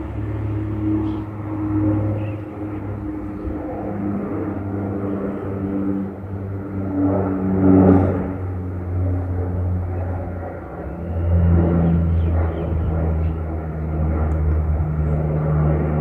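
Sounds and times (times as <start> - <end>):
turboprop plane propeller hum: 0.0 - 16.0.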